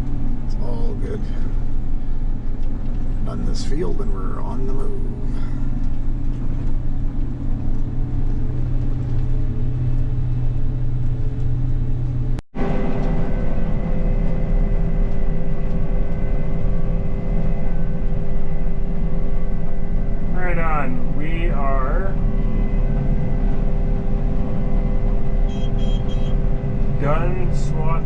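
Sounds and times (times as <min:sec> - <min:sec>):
engine drone with higher tones: 0:00.0 - 0:28.0
harvesting machine engine running: 0:00.0 - 0:28.0.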